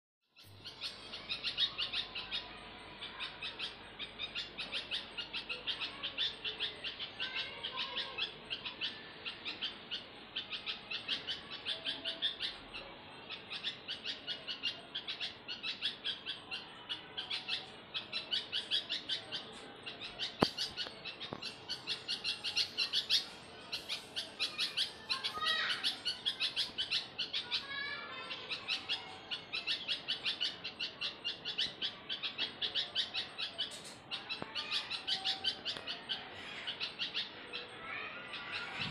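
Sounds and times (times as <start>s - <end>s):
small birds chirping: 0.3s - 38.9s.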